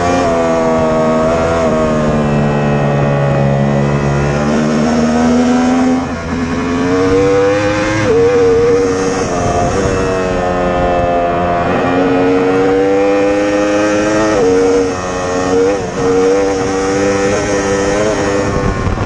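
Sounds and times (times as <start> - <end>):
motorbike engine revving high: 0.0 - 19.0.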